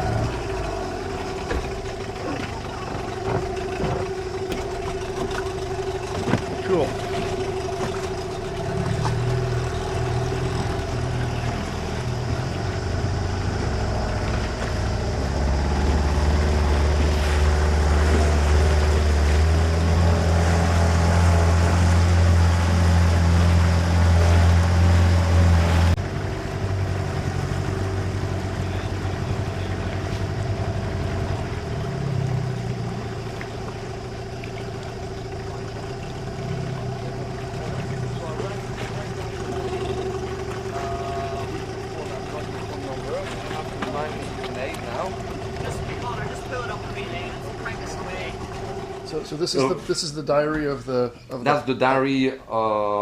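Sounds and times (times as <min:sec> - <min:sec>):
boat motor running: 0:00.0 - 0:53.0.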